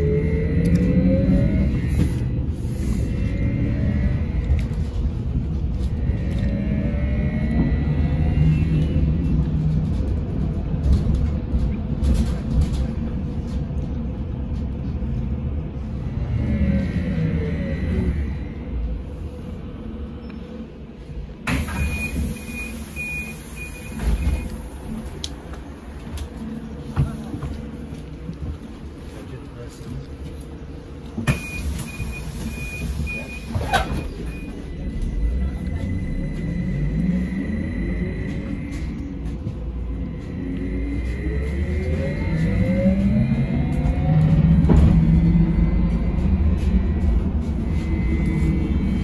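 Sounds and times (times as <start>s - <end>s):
low road rumble: 0.0s - 49.0s.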